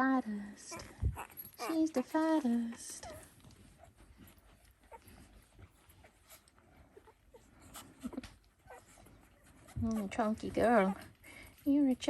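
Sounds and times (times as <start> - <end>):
puppies squeaking: 0.7 - 11.2.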